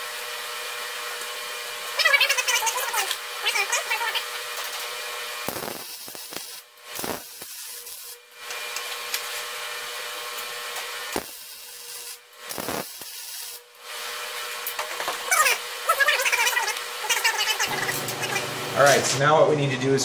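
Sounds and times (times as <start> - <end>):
welder arc crackling and hissing: 0.8 - 19.3.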